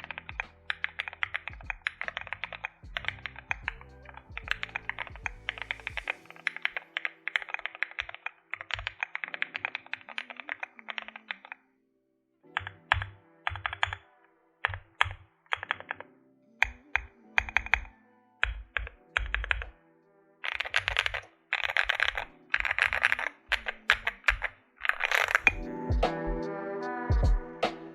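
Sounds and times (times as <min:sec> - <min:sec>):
mechanical keyboard typing: 0:00.0 - 0:11.6, 0:12.6 - 0:16.0, 0:16.6 - 0:19.7, 0:20.4 - 0:25.6.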